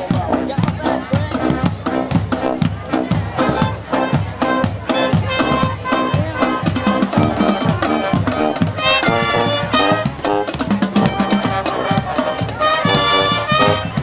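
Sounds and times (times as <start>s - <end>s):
brass and sousaphones: 0.0s - 14.0s
steady drum beat: 0.0s - 14.0s.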